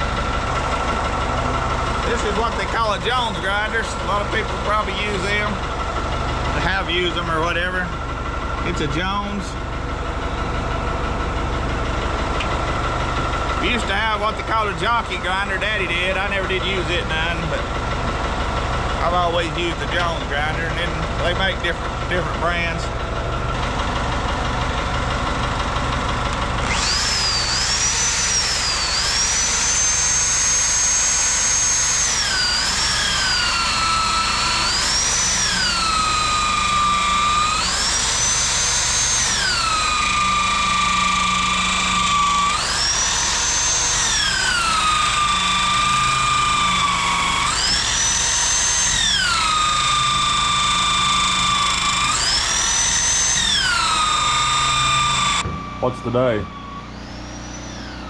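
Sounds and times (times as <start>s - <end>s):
grinder motor whining: 0.0s - 58.0s.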